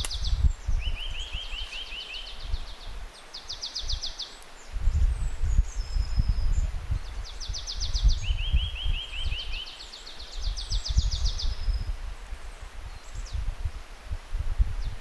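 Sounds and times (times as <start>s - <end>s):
songbirds singing trills: 0.0s - 13.7s, 14.7s - 15.0s
wind rumble on microphone: 0.0s - 15.0s.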